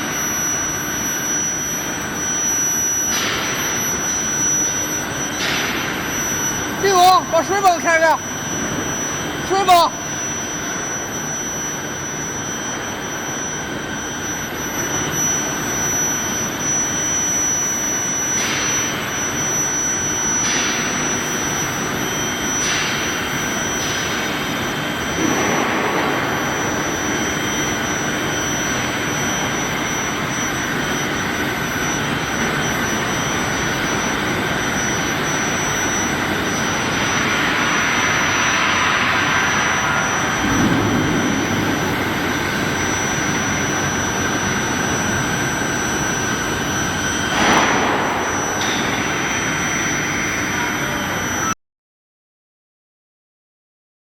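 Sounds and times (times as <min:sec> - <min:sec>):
constant high-pitched tone: 0:00.0 - 0:51.6.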